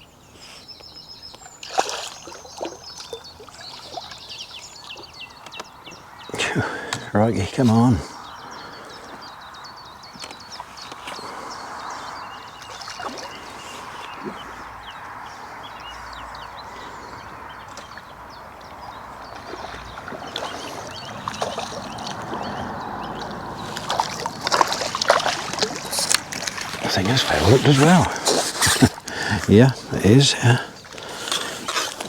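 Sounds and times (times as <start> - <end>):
water splashing and sloshing: 1.2 - 32.0.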